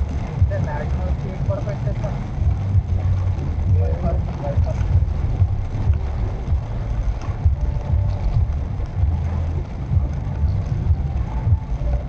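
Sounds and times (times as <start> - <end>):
car interior road and engine rumble: 0.0 - 12.0.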